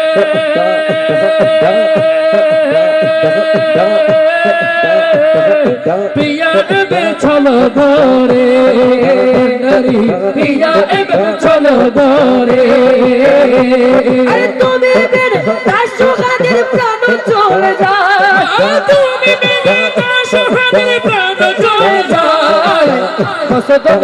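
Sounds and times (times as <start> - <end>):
men singing: 0.0 - 24.0
steady drum rhythm: 0.0 - 24.0.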